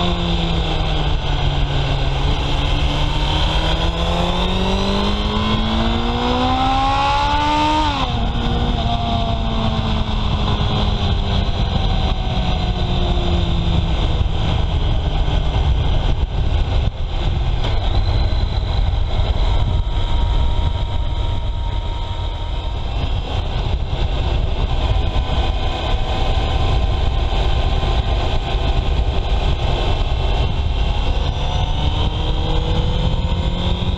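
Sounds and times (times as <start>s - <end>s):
low rumble: 0.0s - 33.9s
motorcycle engine revving: 0.0s - 33.9s.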